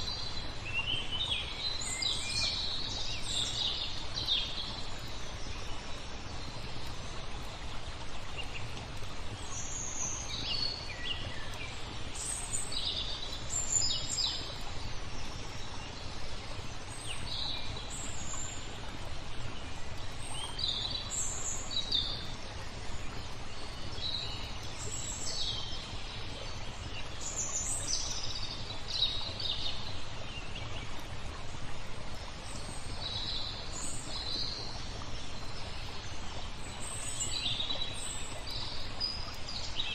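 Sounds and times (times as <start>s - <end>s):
flowing water hiss: 0.0s - 39.9s
songbirds chirping: 0.0s - 39.9s.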